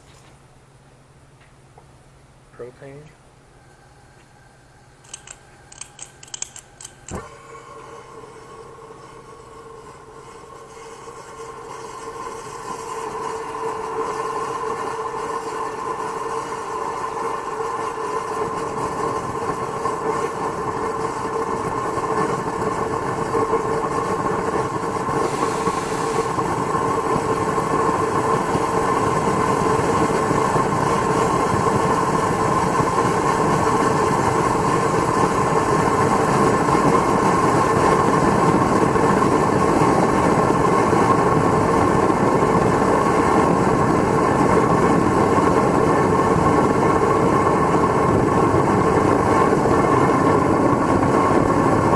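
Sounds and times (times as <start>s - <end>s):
constant hum: 0.0s - 51.9s
burner flame rushing: 5.1s - 51.9s.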